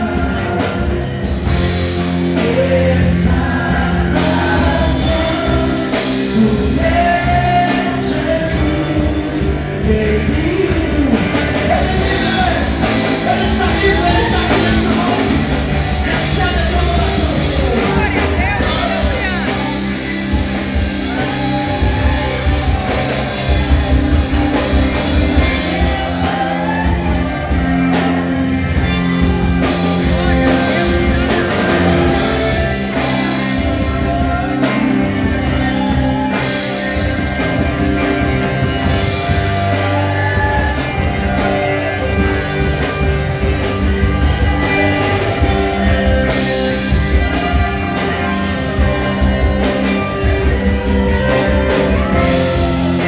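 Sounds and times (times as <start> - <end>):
rock band playing: 0.0 - 53.0.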